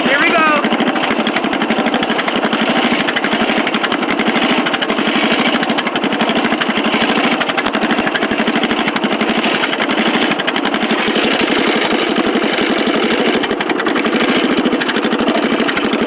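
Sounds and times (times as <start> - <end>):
riding lawn mower engine running: 0.0 - 16.0.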